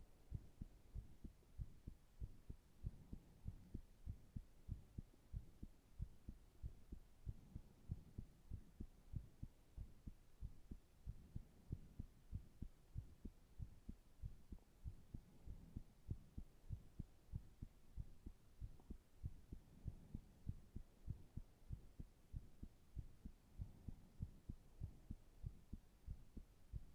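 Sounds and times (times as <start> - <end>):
heartbeat low thumps: 0.0 - 26.9.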